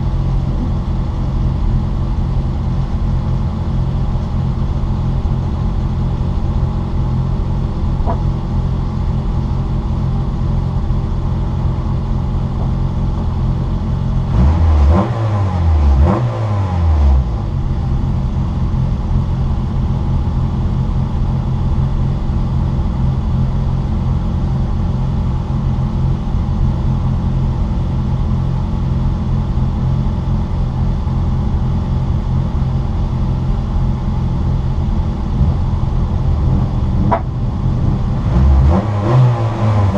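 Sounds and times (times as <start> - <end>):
car engine running under load: 0.0 - 39.9.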